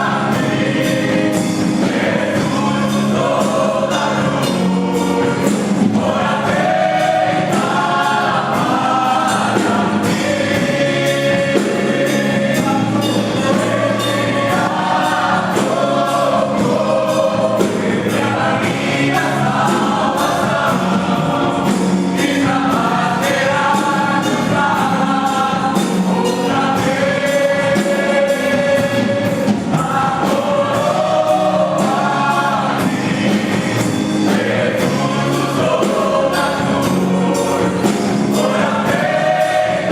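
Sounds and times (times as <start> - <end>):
choir singing gospel song: 0.0 - 39.9
instrumental accompaniment: 0.0 - 39.9.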